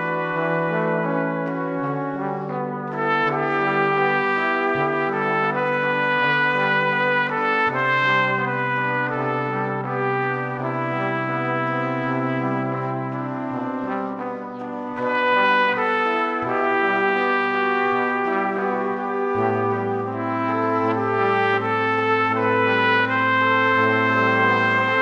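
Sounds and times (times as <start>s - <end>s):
slow brass-like chords: 0.0s - 25.0s.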